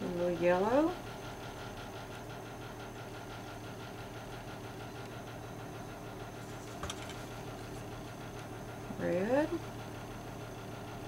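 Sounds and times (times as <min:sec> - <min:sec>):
steady low machine hum: 0:00.0 - 0:11.0.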